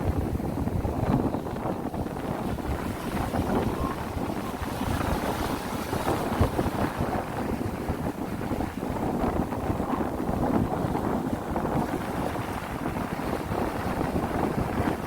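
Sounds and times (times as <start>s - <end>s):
wind buffeting microphone: 0.0s - 15.0s
sea waves: 1.9s - 15.0s.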